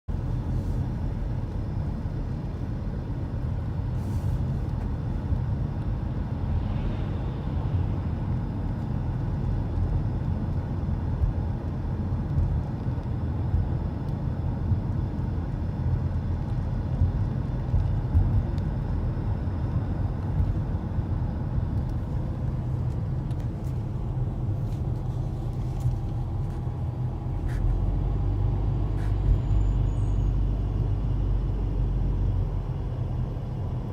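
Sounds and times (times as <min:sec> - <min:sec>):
car engine and road noise: 0:00.1 - 0:33.9.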